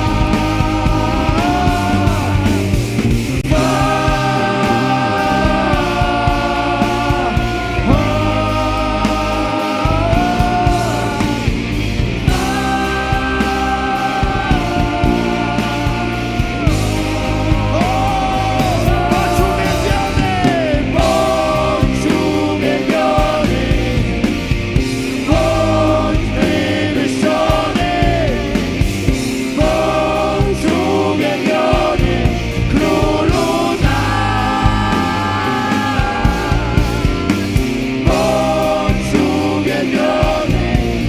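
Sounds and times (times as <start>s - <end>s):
bass: 0.0s - 41.0s
steady drum beat: 0.0s - 41.0s
voices singing together: 0.0s - 41.0s
worship band playing: 0.0s - 41.0s.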